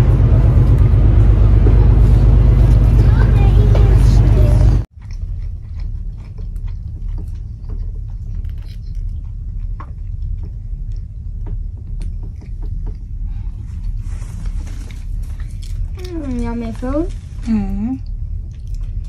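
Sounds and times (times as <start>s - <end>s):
ship low rumble: 0.0s - 19.0s.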